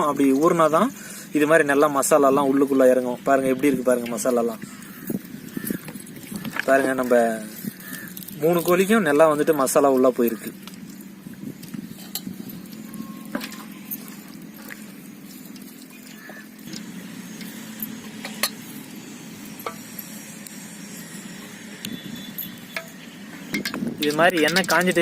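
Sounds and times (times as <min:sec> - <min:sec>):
oil heating low rumble: 0:00.0 - 0:25.0.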